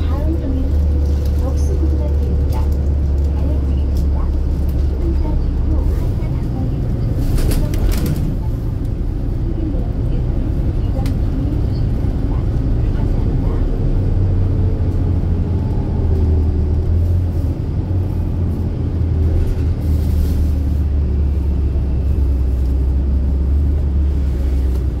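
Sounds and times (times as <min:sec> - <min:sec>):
bus engine and road rumble: 0:00.0 - 0:25.0.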